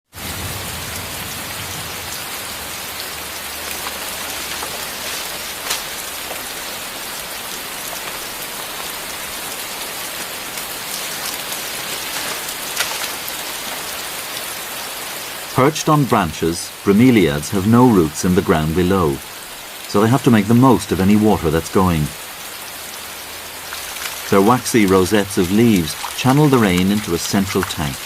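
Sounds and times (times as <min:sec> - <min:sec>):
heavy rain falling: 0:00.1 - 0:28.0.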